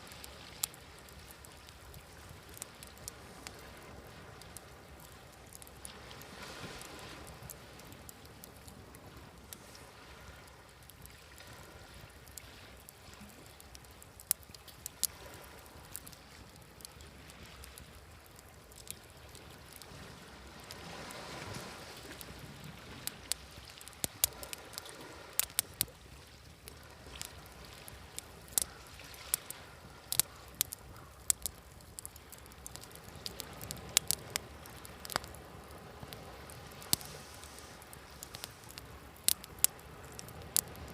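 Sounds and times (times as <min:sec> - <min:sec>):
sea waves: 0:00.0 - 0:40.9
wood fire crackling and popping: 0:00.0 - 0:40.9.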